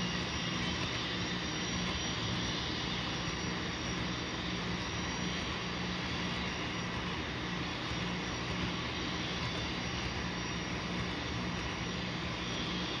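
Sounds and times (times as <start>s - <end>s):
model locomotive engine sound: 0.0s - 13.0s.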